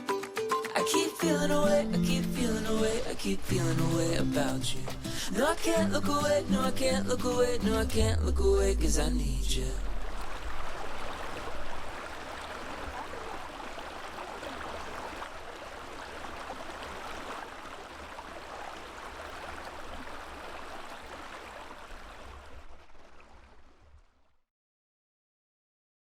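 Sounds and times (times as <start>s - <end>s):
creek babbling: 1.2s - 23.9s.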